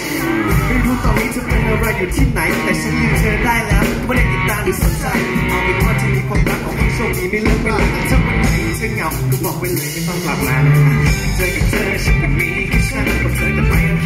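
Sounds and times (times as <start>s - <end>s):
live pop-rock band playing: 0.0s - 14.0s
man singing: 0.0s - 14.0s.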